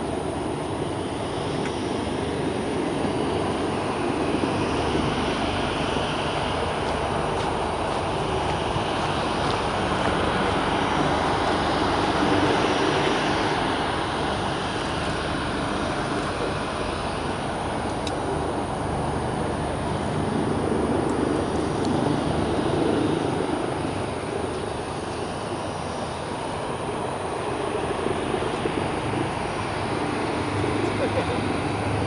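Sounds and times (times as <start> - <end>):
jet engines rushing: 0.0 - 32.0.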